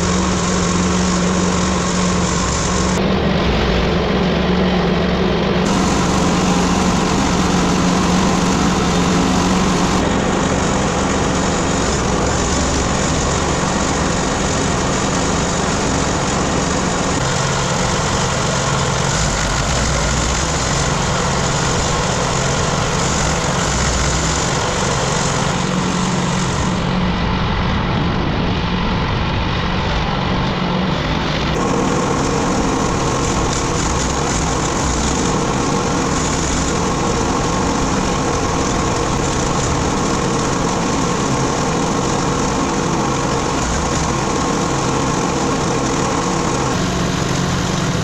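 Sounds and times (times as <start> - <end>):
wood chipper engine running: 0.0 - 28.2, 29.6 - 48.0.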